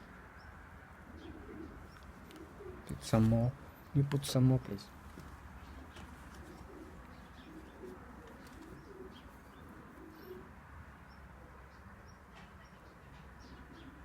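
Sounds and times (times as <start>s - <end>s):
pigeons cooing faintly: 0.0s - 14.0s.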